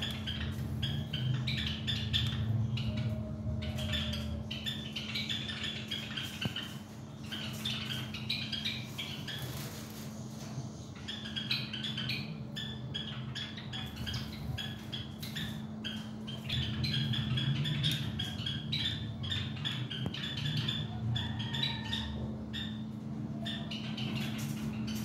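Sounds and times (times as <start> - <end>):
nestling birds squeaking: 0.0 - 25.0
steady low hum: 0.0 - 25.0.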